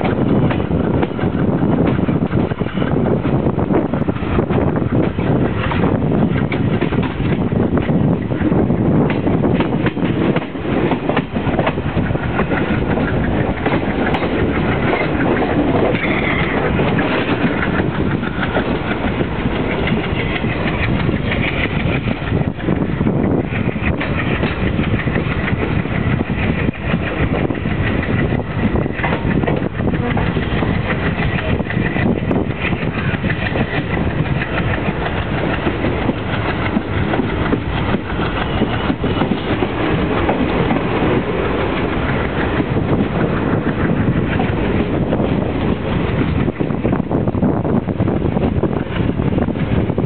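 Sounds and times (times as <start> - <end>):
train rumbling and rattling: 0.0 - 50.0.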